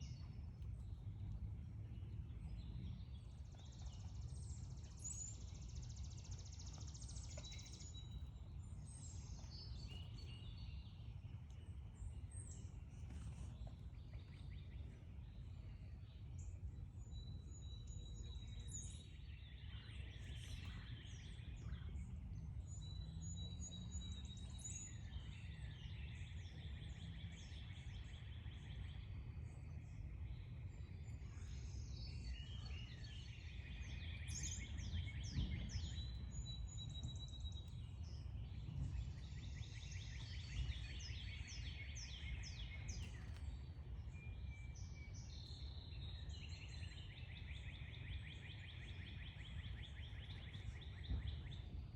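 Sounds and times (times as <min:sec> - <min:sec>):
songbirds chirping and singing: 0:00.0 - 0:51.9.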